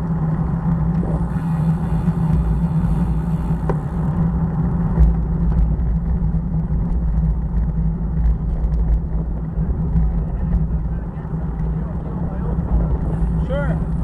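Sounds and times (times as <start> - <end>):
wind and road rumble: 0.0 - 14.0.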